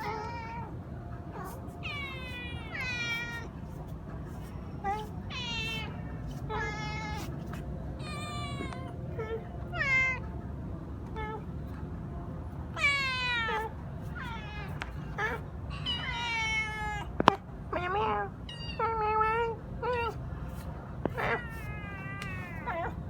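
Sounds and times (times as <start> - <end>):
cats meowing: 0.0 - 10.3, 11.0 - 11.5, 12.7 - 20.2, 21.0 - 23.0.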